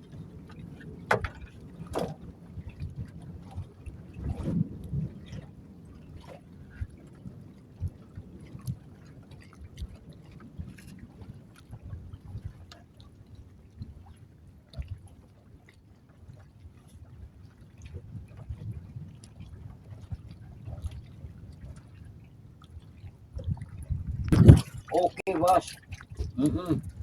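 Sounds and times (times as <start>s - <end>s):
wind rumbling on microphone: 0.0s - 12.7s, 17.0s - 27.0s.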